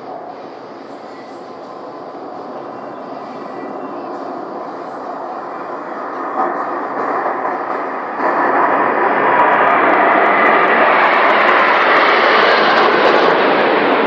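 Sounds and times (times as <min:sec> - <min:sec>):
military aircraft engine roar: 0:00.0 - 0:14.0.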